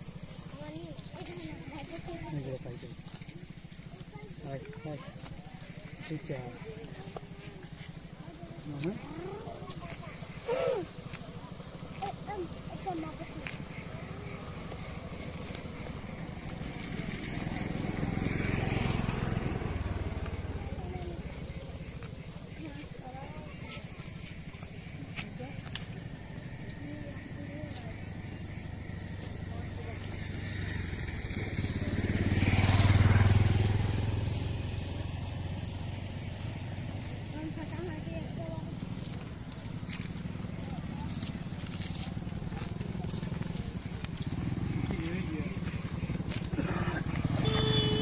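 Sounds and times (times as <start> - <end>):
small engine pulsing: 0.0 - 48.0.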